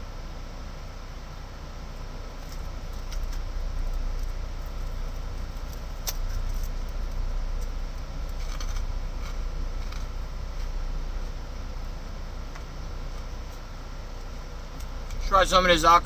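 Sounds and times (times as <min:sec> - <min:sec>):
idling engine rumble: 0:00.0 - 0:16.0.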